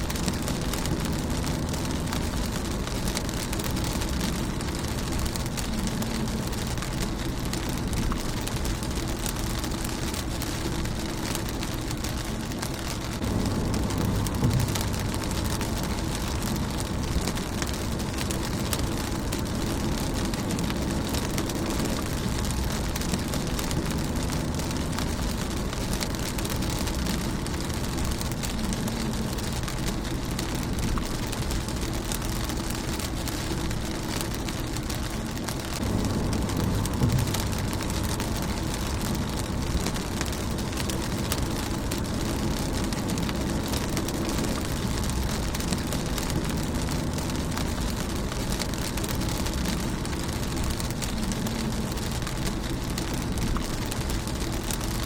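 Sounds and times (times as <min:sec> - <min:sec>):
low rumble: 0:00.0 - 0:55.0
rain pattering on a car: 0:00.0 - 0:55.0.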